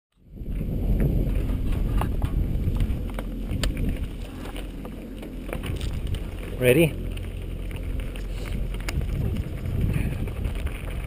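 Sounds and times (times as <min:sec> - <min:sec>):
wind buffeting microphone: 0:00.2 - 0:11.0.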